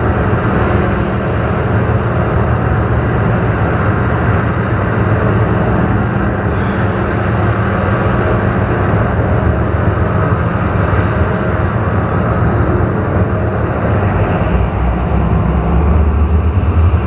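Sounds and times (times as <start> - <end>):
ambient synthesizer drone music: 0.0 - 17.0.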